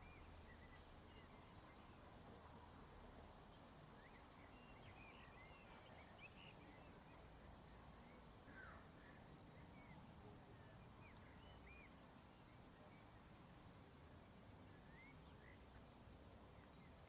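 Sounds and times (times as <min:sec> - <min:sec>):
low steady hiss and rumble: 0:00.0 - 0:17.0.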